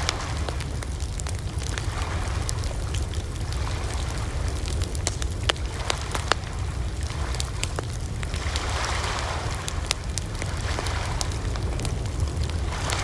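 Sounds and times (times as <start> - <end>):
burning wood crackling and popping: 0.0 - 13.0
campfire burning: 0.0 - 13.0.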